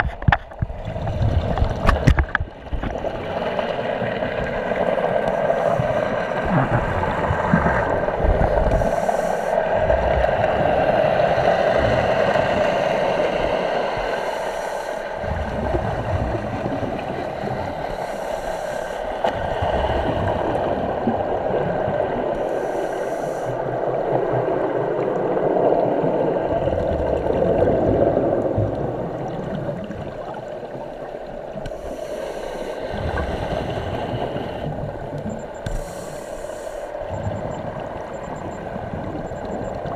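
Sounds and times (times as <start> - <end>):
underwater rush of water: 0.0 - 39.9
regulator bubbles hissing: 0.6 - 39.9.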